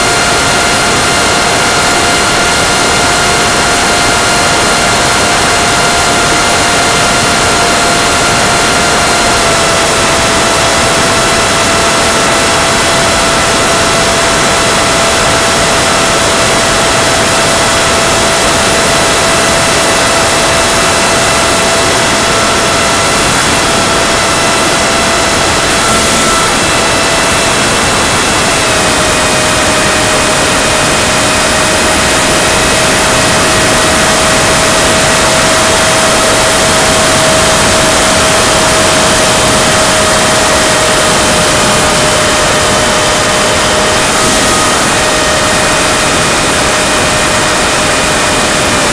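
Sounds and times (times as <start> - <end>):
electric motor whine: 0.0 - 48.9.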